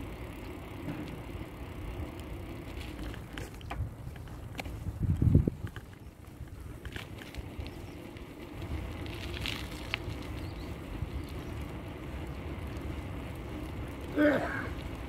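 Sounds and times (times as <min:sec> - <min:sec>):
wind buffeting microphone: 0:01.8 - 0:15.0.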